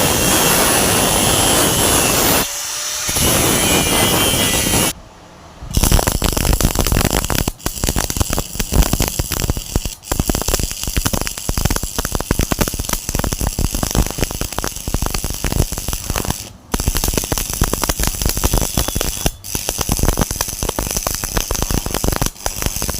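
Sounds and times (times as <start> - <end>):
welding arc crackling: 0.0 - 5.0, 5.7 - 22.9.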